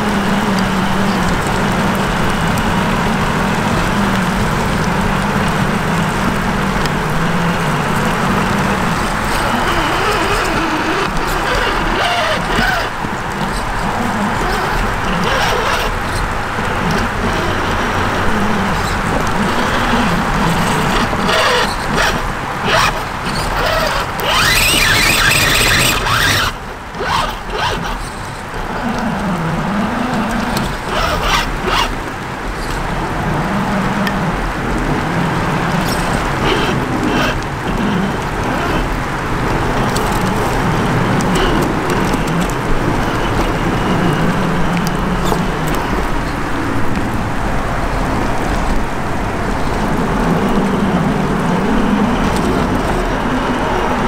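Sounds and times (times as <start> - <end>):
electric motor and gear whine: 0.0 - 54.0
water splashing around tyres: 0.0 - 54.0.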